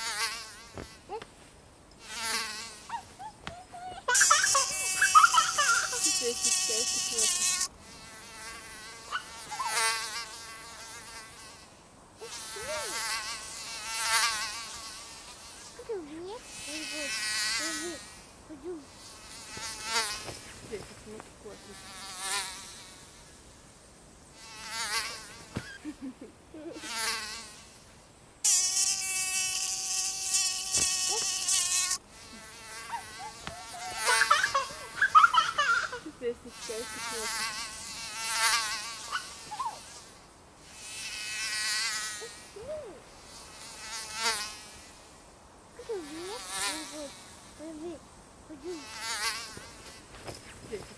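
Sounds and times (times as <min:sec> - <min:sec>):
mosquito buzzing: 0:00.0 - 0:01.2, 0:02.0 - 0:23.3, 0:24.3 - 0:45.2, 0:45.8 - 0:50.9.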